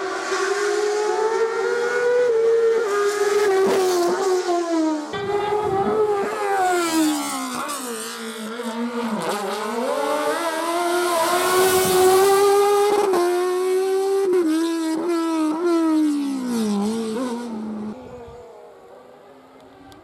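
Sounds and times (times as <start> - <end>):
race car engine at high revs: 0.0 - 20.0.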